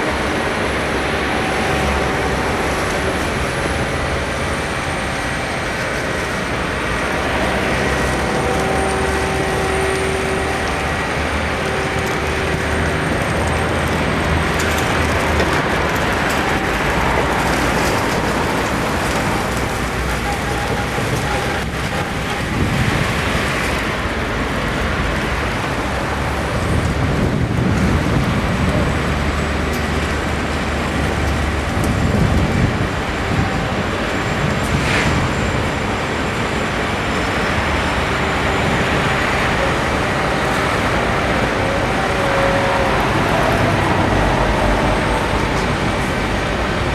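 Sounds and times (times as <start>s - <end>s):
excavator diesel engines running: 0.0s - 46.9s.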